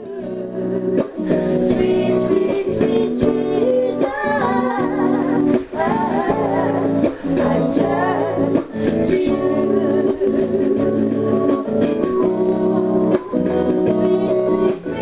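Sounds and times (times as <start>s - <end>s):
plucked string instrument chords: 0.0s - 15.0s
woman singing: 0.0s - 15.0s.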